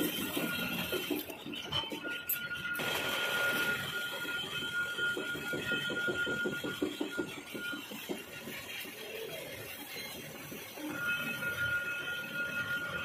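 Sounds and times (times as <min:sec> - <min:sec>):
lathe mechanical rattle: 0:00.0 - 0:13.0
lathe tool cutting whine: 0:00.0 - 0:13.0.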